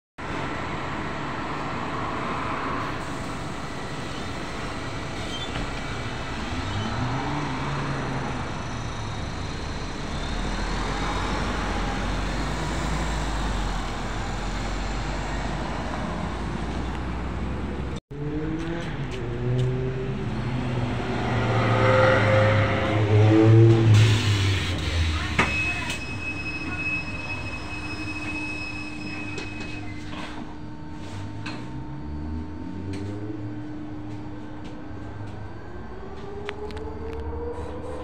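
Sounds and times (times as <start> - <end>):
electric bus humming: 0.2 - 38.0
road traffic passing: 0.2 - 38.0.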